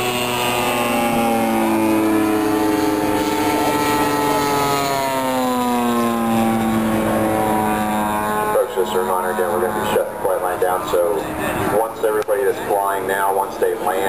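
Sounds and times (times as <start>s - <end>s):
model airplane engine drone: 0.0s - 14.0s.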